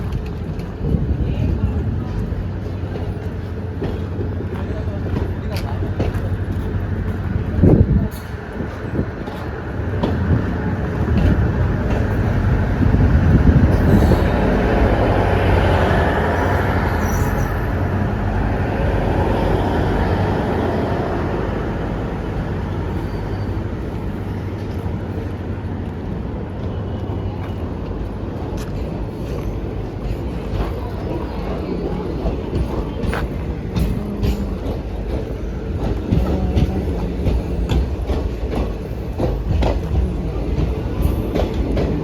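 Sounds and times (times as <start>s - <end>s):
diesel train engine hum: 0.0s - 42.0s
train wheels on rails: 0.0s - 42.0s.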